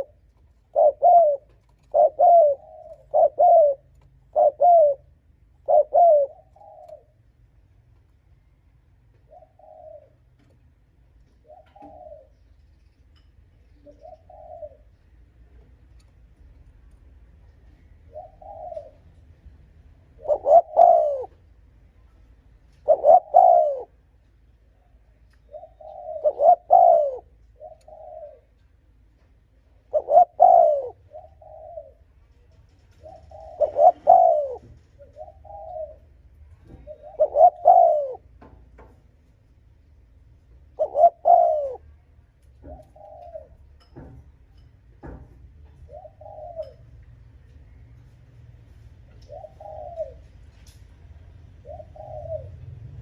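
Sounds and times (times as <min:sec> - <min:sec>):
dove cooing: 0:00.0 - 0:07.5, 0:09.1 - 0:12.5, 0:13.7 - 0:17.0, 0:17.6 - 0:39.0, 0:40.6 - 0:47.2, 0:48.8 - 0:53.0.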